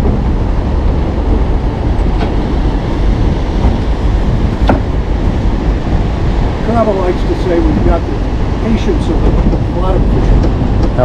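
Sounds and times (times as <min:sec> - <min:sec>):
ocean surf breaking: 0:00.0 - 0:11.0
wind rumbling on microphone: 0:00.0 - 0:11.0.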